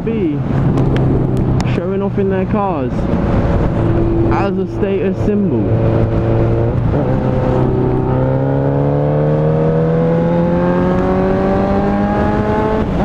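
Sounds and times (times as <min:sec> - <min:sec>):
motorcycle engine accelerating: 0:00.5 - 0:13.0.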